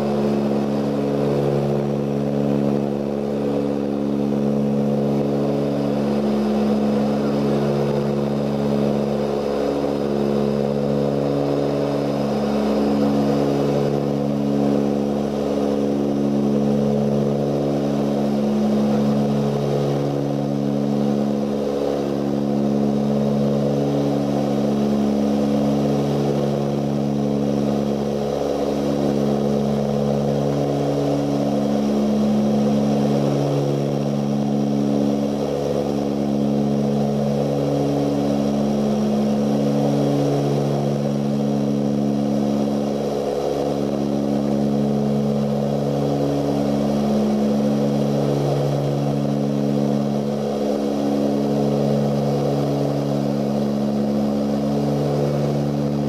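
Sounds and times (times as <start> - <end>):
turboprop engines droning in cabin: 0.0 - 56.0.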